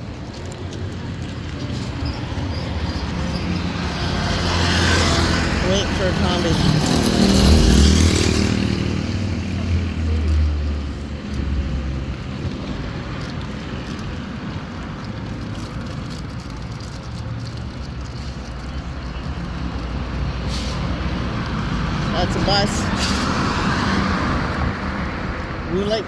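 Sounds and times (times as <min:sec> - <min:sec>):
hum of passing traffic: 0:00.0 - 0:26.0
vehicle engine rumbling: 0:00.0 - 0:26.0.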